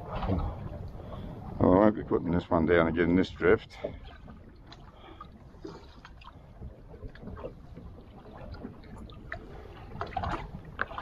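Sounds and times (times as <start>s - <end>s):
low rumble of wind: 0.0s - 11.0s
water around a boat: 0.0s - 11.0s.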